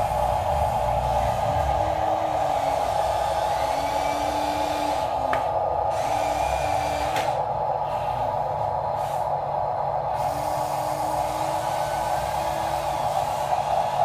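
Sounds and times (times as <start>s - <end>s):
small electric motors whining: 0.0s - 9.2s, 10.1s - 14.0s
lower motor hum: 0.0s - 14.0s.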